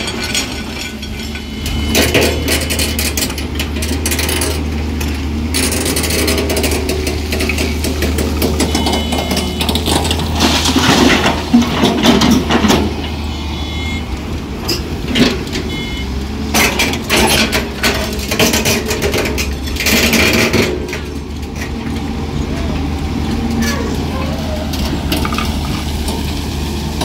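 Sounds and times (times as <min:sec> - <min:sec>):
soil clattering into steel trolley: 0:00.0 - 0:13.2, 0:16.4 - 0:22.0, 0:23.4 - 0:27.0.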